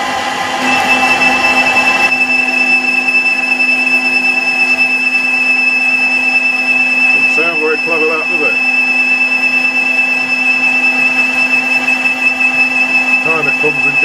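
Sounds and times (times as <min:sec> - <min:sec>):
high-pitched cutting squeal: 0:00.0 - 0:14.0
lathe drive humming: 0:00.0 - 0:14.0.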